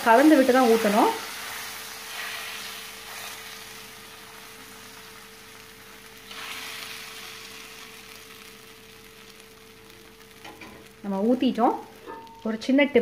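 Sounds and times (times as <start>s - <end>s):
batter sizzling on a hot griddle: 0.0s - 12.8s.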